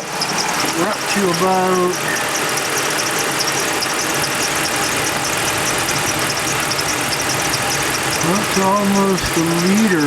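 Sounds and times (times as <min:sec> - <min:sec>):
engine idling with ticking: 0:00.0 - 0:10.0.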